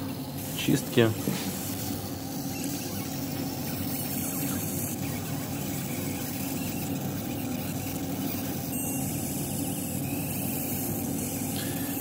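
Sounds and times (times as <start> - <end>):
laser marker buzzing hum: 0.0 - 12.0.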